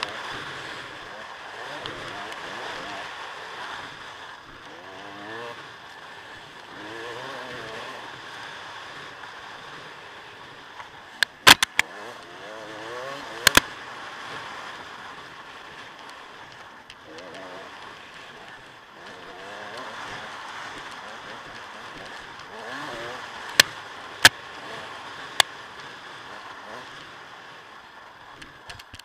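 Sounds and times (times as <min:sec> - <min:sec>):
dirt bike engine revving: 0:00.0 - 0:28.7
steady rushing noise: 0:00.0 - 0:29.0.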